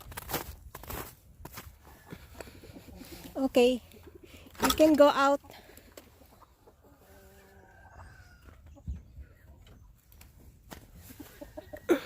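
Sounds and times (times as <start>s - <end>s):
young chickens calling: 1.7s - 12.0s.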